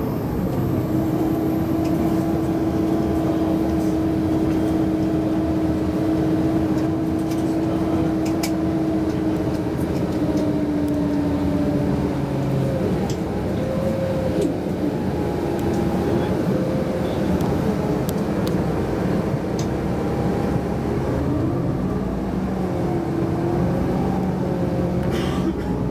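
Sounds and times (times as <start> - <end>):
jet cabin engine hum: 0.0 - 25.9.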